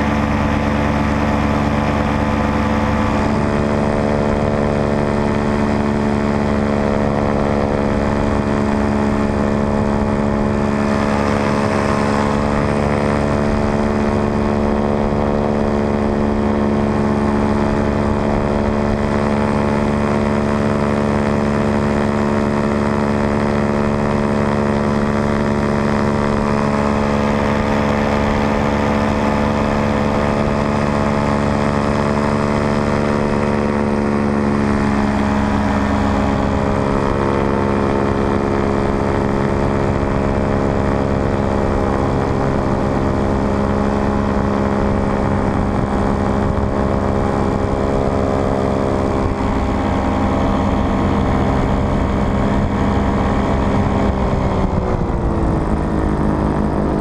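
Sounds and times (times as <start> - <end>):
paramotor engine drone: 0.0 - 57.0.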